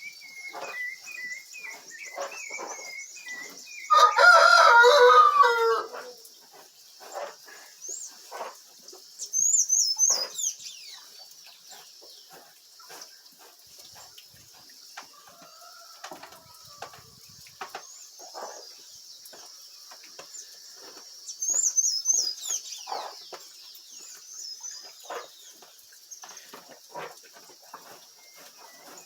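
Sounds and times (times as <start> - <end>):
farmyard birds chirping: 0.0 - 29.0.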